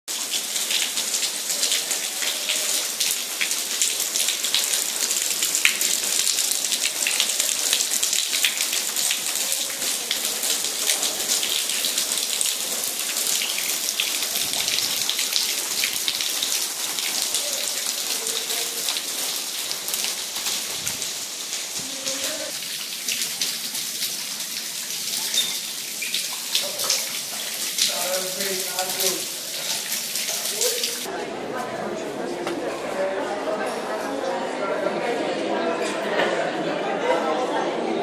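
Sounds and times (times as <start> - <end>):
heavy rain splashing: 0.1 - 31.1.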